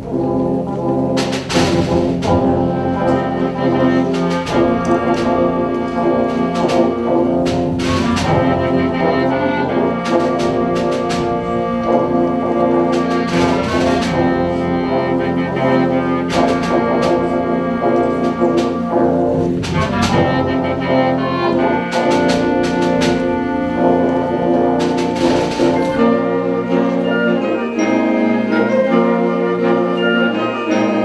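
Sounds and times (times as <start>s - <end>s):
brass and woodwind chords: 0.0s - 31.0s
sharp percussion strikes: 1.2s - 29.0s.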